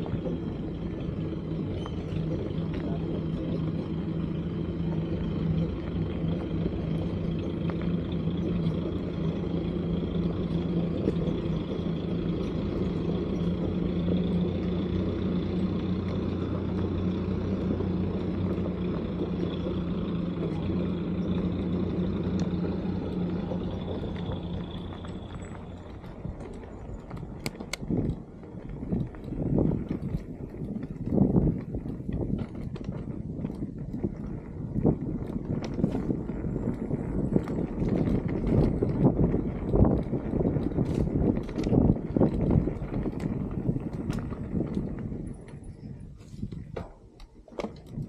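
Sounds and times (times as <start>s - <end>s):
vehicle engine droning: 0.0s - 48.0s.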